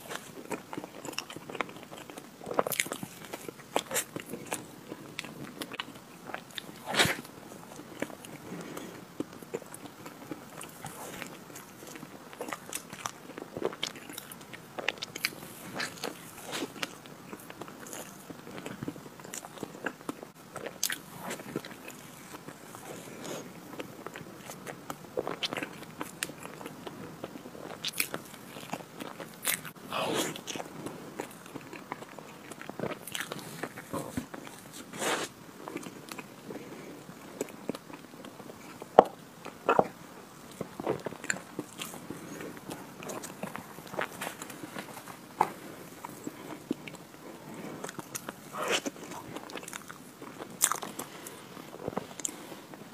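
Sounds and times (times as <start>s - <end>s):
person chewing and lip smacking: 0.0s - 36.4s, 37.0s - 52.8s.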